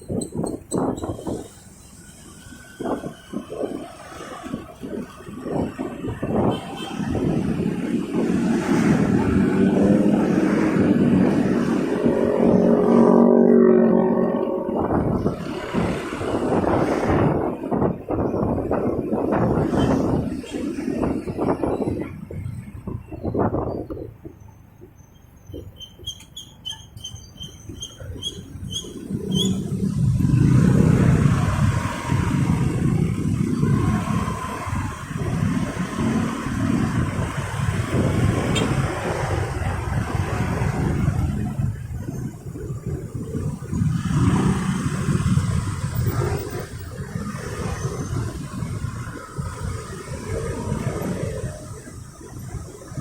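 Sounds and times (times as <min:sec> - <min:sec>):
traffic noise: 0:00.0 - 0:53.0
wind on microphone: 0:00.0 - 0:53.0.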